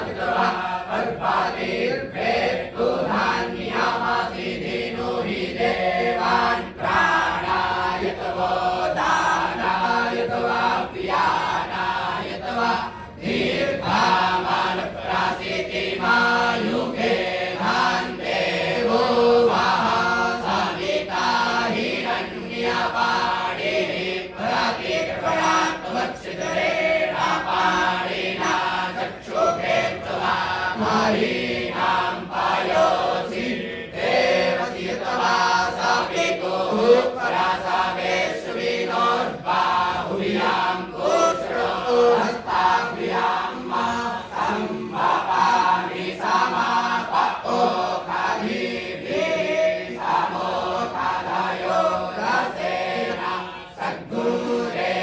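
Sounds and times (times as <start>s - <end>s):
young students chanting in unison: 0.0s - 55.0s.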